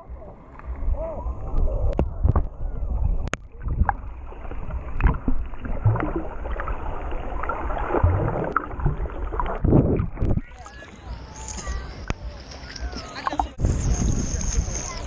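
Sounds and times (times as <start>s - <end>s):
muffled underwater sloshing and bubbling: 0.0s - 13.6s.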